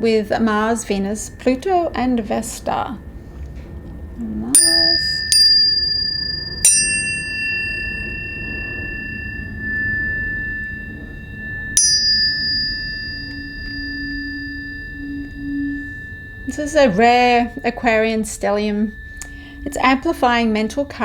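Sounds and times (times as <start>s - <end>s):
tuning forks ringing: 0.0s - 21.0s.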